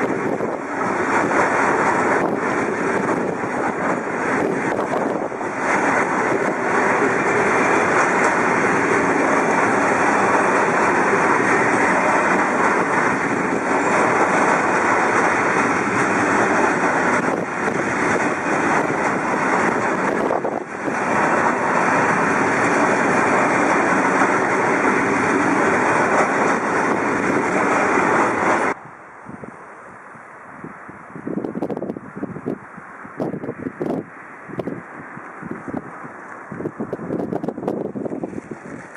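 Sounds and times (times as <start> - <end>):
train wheels rolling on rails: 0.0 - 28.8, 29.5 - 38.9.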